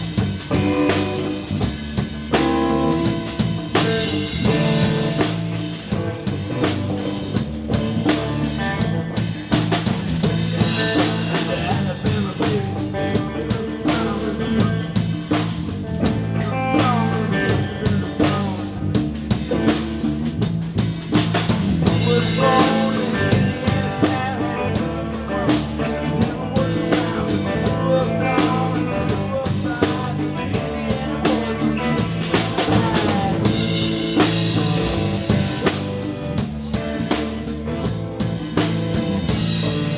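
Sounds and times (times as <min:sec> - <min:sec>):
bass guitar: 0:00.0 - 0:39.9
drum kit steady beat: 0:00.0 - 0:39.9
lead guitar bending notes: 0:00.0 - 0:39.9.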